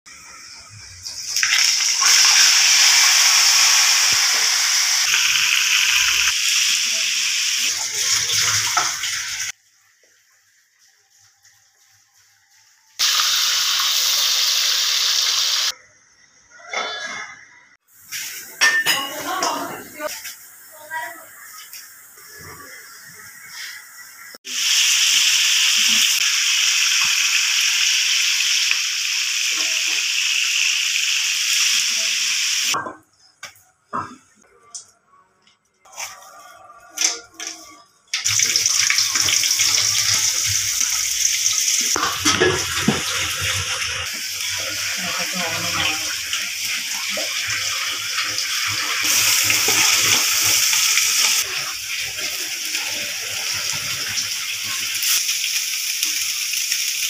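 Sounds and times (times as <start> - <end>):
hot oil sizzling in a wok: 0.1 - 12.3, 12.9 - 15.8, 18.0 - 32.8, 38.2 - 57.0.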